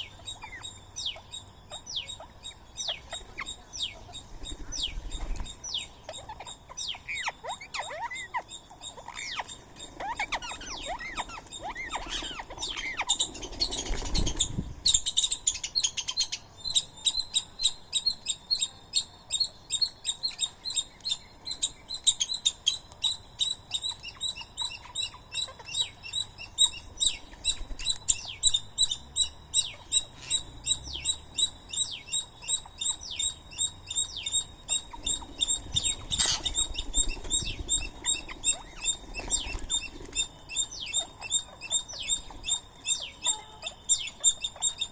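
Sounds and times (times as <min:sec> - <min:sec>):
small animal chirping calls: 0:00.0 - 0:44.9.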